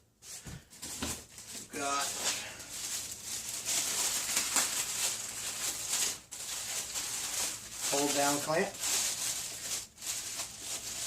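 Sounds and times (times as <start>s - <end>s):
packing material rustling: 0.3s - 11.0s.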